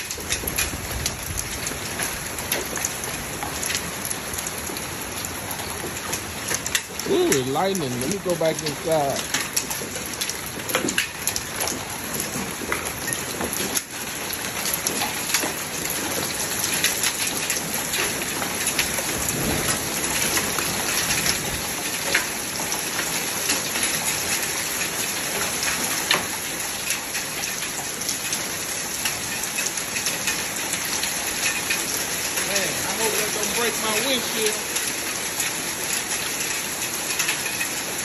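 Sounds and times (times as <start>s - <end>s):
hailstones ticking: 0.0s - 38.0s
heavy rain on a roof: 0.0s - 38.0s.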